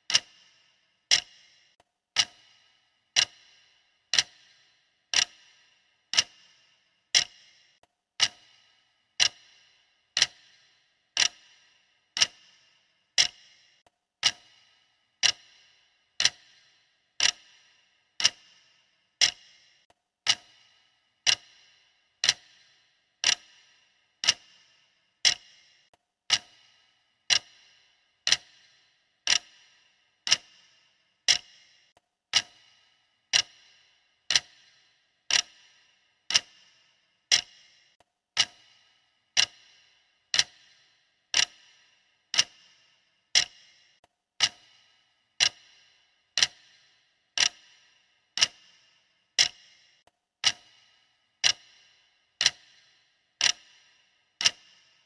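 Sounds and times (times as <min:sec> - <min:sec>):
clock ticking with high ring: 0:00.0 - 0:55.0.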